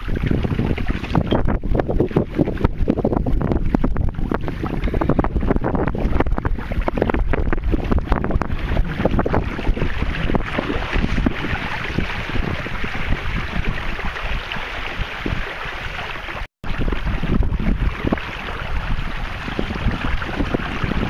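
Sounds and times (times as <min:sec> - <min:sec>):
rushing water: 0:00.0 - 0:21.0
wind buffeting microphone: 0:00.0 - 0:21.0.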